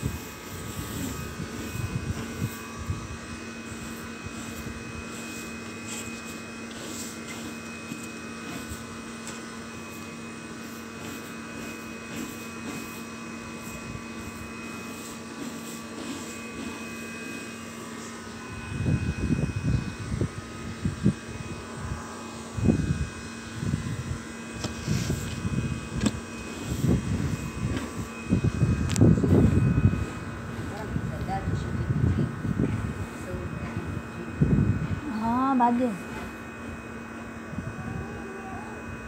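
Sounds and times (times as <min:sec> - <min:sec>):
mechanical hum with faint whine: 0:00.0 - 0:39.0.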